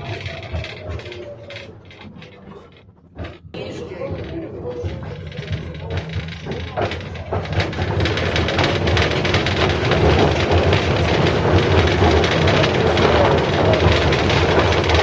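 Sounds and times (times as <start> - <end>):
low rumble of running gear: 0.0 - 15.0
steel wheels rolling on track: 0.0 - 15.0.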